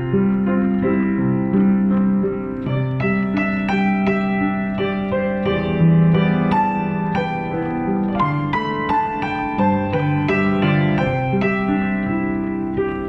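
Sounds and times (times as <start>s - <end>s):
slow gentle piano melody: 0.0s - 13.0s.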